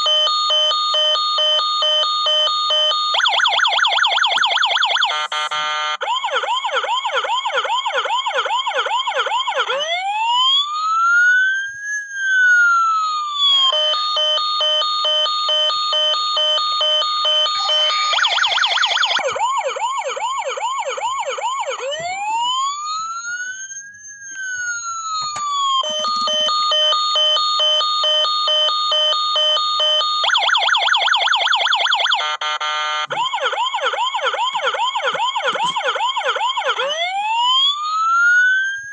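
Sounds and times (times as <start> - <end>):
toy electronic siren: 0.0 - 38.9.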